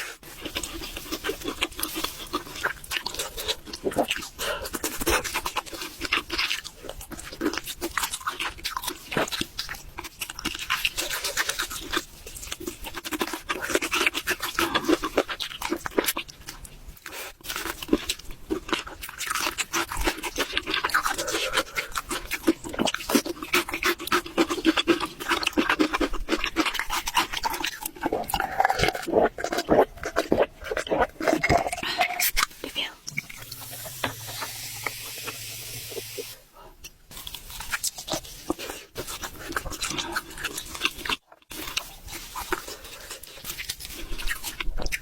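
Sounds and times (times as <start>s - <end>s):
person chewing and crunching food: 0.0s - 45.0s.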